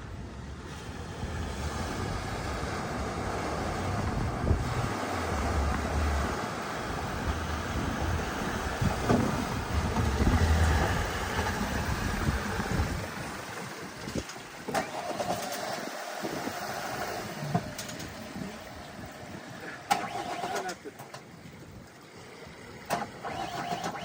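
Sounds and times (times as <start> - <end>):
car engine rumbling: 0.0 - 24.0.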